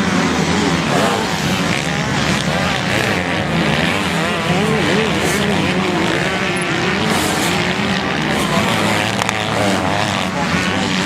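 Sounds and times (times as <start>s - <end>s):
drone of several engines: 0.0s - 11.0s
motocross engines revving: 0.0s - 11.0s.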